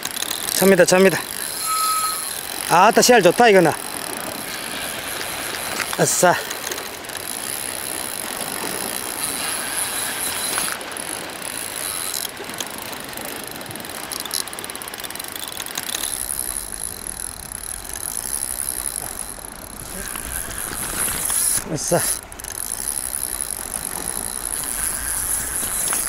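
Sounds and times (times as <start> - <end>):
fishing reel clicking: 0.0 - 26.0
waves washing on rocks: 0.0 - 26.0.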